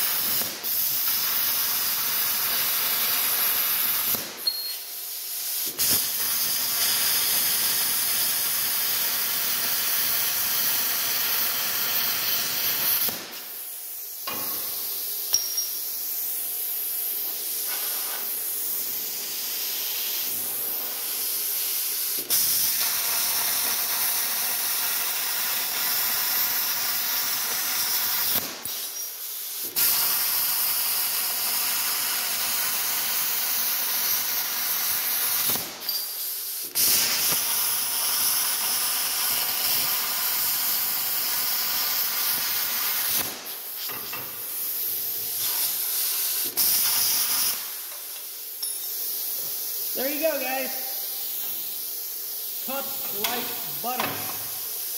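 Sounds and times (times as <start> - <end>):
compressed air hiss: 0.0 - 54.9
plasma cutter arc hissing: 0.0 - 54.9.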